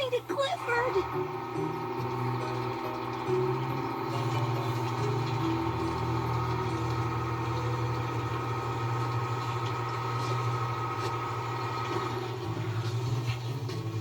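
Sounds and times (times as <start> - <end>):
machine engine hum: 0.0 - 14.0.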